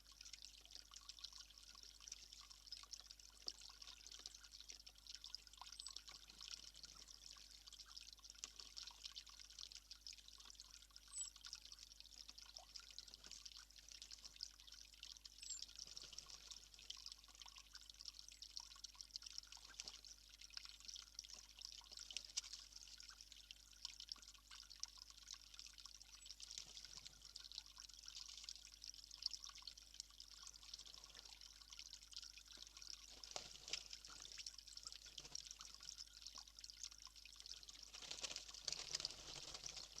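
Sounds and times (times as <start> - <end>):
water trickling and pattering: 0.0 - 40.0.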